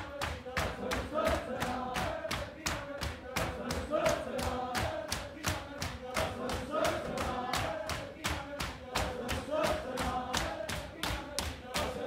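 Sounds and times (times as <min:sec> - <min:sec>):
hands slapping chests: 0:00.0 - 0:12.0
voices chanting a lament: 0:00.0 - 0:12.0.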